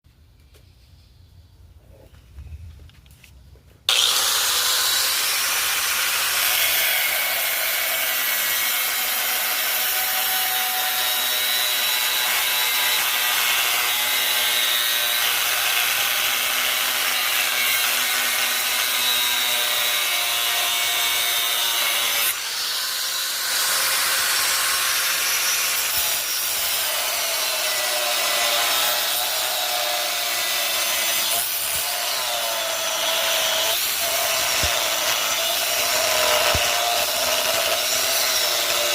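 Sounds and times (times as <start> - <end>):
power tool grinding steel: 3.9 - 38.9.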